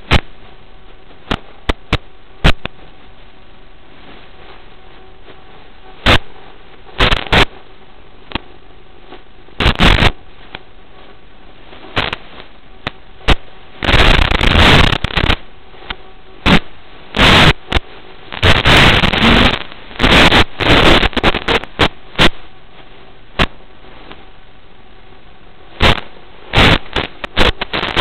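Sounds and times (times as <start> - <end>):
loud static bursts and crackles: 0.0 - 28.0
low steady static hiss: 0.0 - 28.0.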